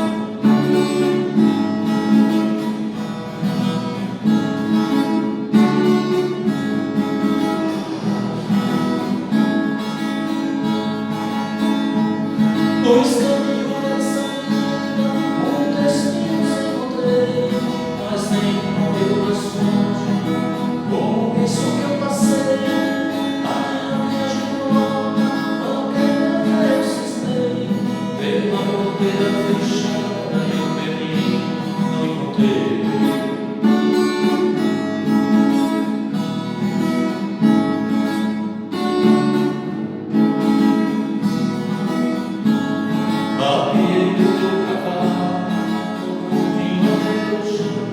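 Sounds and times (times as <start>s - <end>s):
acoustic guitar strumming: 0.0s - 47.9s.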